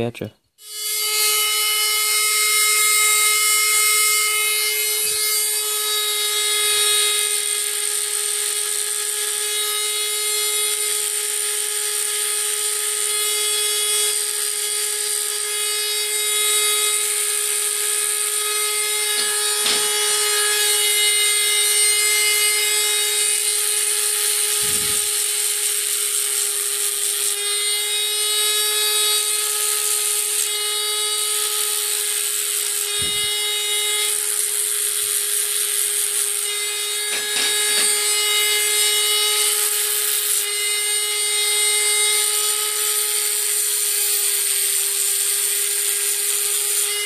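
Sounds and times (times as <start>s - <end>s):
rotary tool grinding metal: 0.6s - 47.0s.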